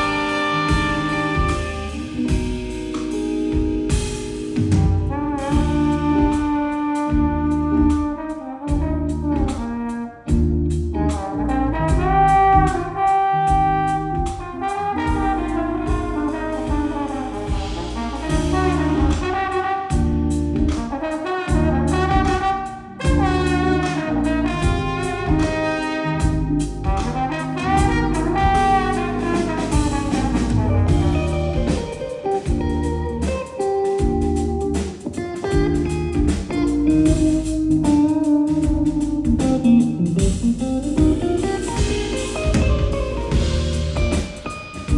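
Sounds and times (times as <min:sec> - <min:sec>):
bending lead melody: 0:00.0 - 0:44.9
drums and bass beat: 0:00.0 - 0:44.9.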